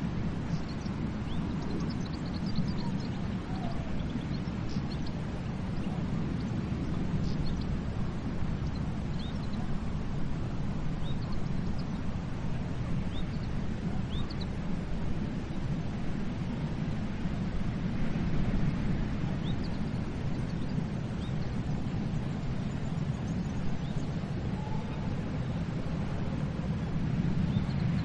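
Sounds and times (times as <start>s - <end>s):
sea surf rumbling: 3.0s - 28.0s.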